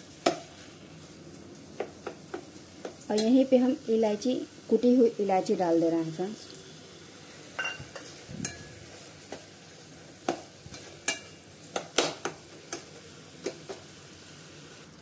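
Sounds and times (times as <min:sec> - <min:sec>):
steady sizzling: 0:00.0 - 0:15.0.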